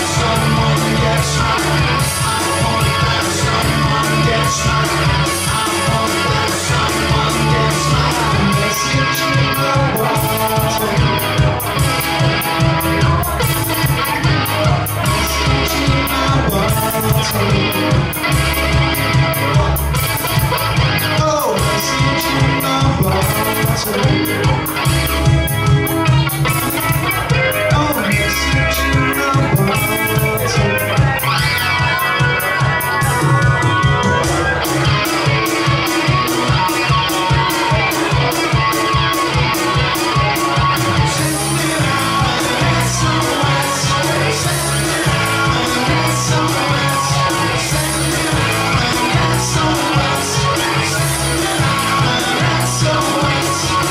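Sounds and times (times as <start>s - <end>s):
bass line: 0.0s - 53.9s
drum beat: 0.0s - 53.9s
electric guitar through amplifier: 0.0s - 53.9s.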